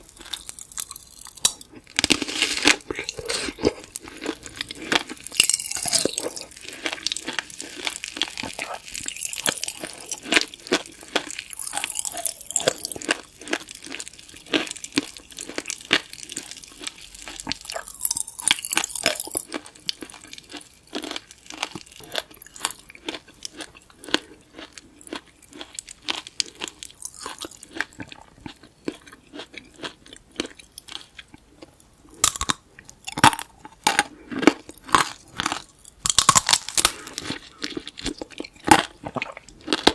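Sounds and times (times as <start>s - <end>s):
candy shell crunching: 0.0s - 39.9s
wet chewing: 0.0s - 39.9s.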